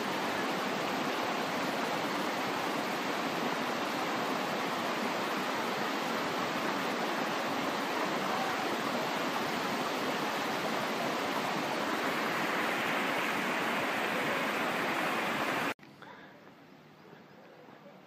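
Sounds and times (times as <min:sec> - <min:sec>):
waterfall rushing and splashing: 0:00.0 - 0:15.8
faint outdoor background: 0:00.0 - 0:18.0.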